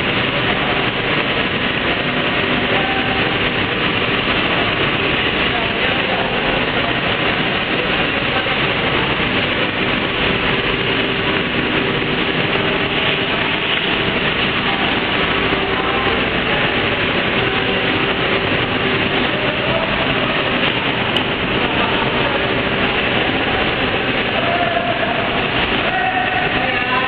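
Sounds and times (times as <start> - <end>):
faint hum: 0.0 - 27.0
production line machine noise: 0.0 - 27.0.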